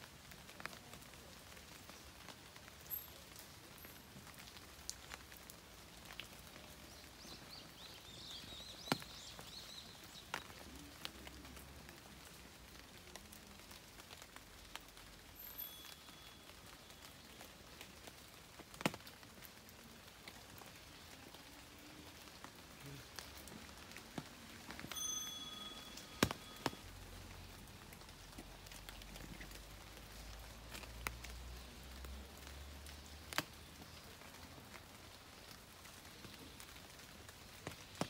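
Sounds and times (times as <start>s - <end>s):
rain falling: 0.0s - 38.0s
sharp ticks of raindrops: 0.0s - 38.0s.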